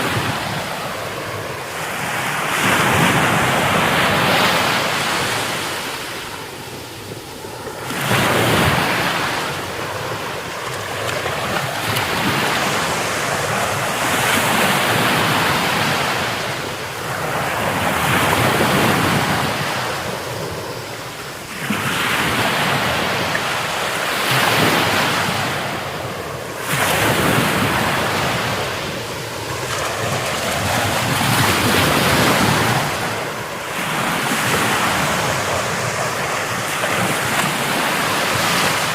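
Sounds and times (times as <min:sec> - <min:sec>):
waves breaking ashore: 0:00.0 - 0:38.9
wind noise on microphone: 0:00.0 - 0:38.9.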